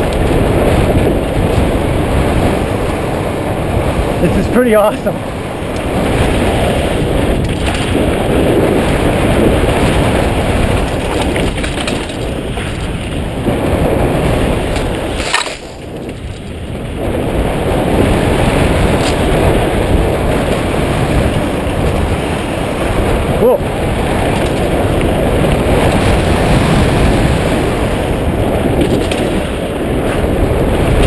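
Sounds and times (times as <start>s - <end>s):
bike tyres rumbling over rough ground: 0.0s - 31.0s.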